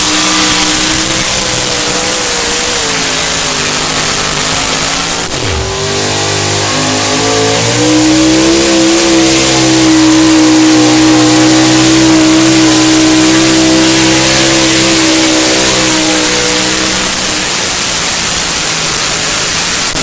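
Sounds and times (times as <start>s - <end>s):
loud rushing noise: 0.0s - 20.0s
truck engine revving: 0.0s - 20.0s.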